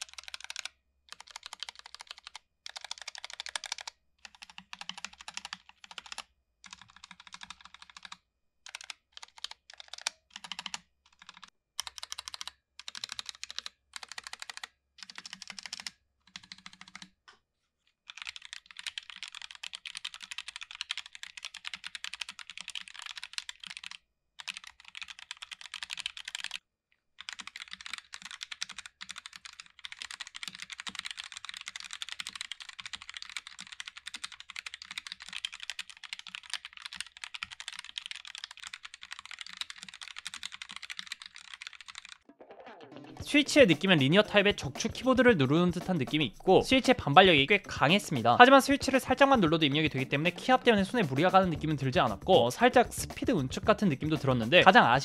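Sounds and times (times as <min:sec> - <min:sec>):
fast typing on keyboard: 0:00.0 - 0:17.2, 0:18.0 - 0:26.6, 0:27.2 - 0:42.2, 0:43.2 - 0:55.0.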